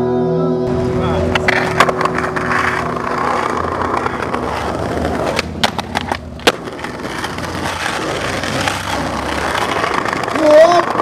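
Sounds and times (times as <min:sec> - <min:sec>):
skateboard wheels rolling on concrete: 0:00.7 - 0:11.0
skateboard clacking on ground: 0:01.2 - 0:11.0.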